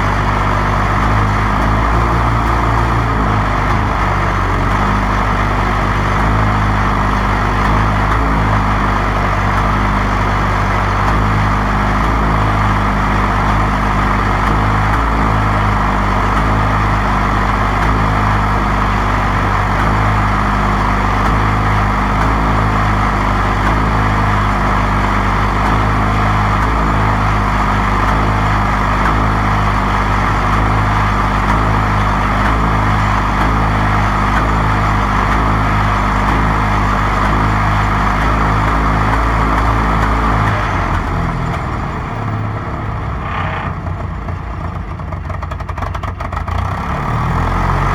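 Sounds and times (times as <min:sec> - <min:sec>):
crawler tractor engine running: 0:00.0 - 0:47.9.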